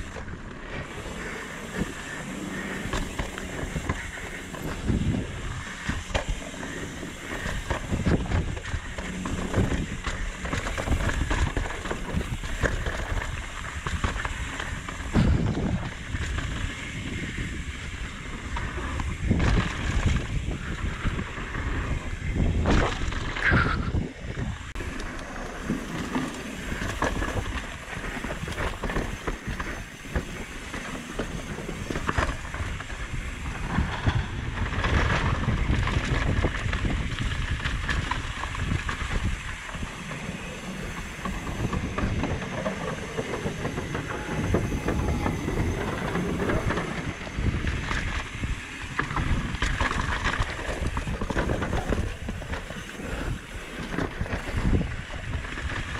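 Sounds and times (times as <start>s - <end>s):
bike rattling over bumps: 0.0s - 55.9s
bike tyres crunching over dirt: 0.0s - 55.9s
wind noise on microphone: 0.0s - 55.9s.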